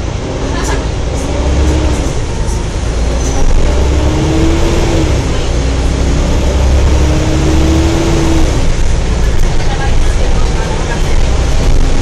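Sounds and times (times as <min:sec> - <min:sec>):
bus engine rumbling: 0:00.0 - 0:12.0
loud bus whine: 0:00.0 - 0:12.0.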